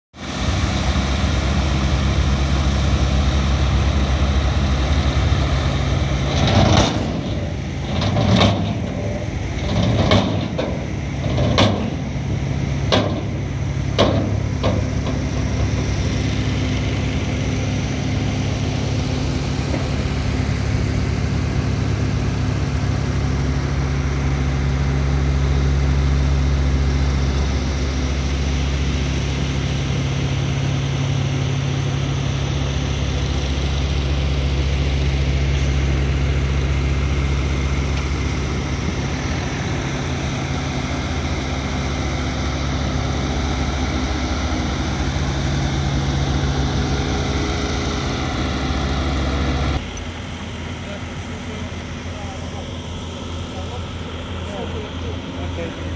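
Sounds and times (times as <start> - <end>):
heavy diesel engine idling: 0.2 - 55.9.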